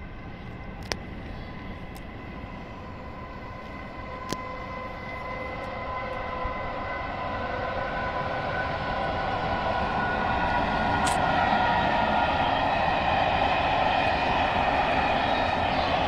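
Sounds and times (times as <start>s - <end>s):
train approaching hum and rumble: 0.0s - 16.0s.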